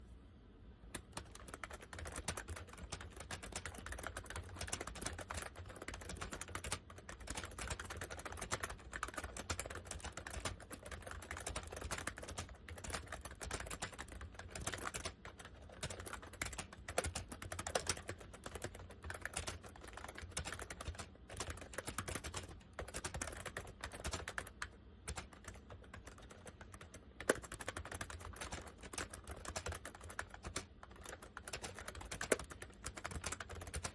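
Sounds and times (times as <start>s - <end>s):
fast keyboard typing: 1.0s - 33.9s.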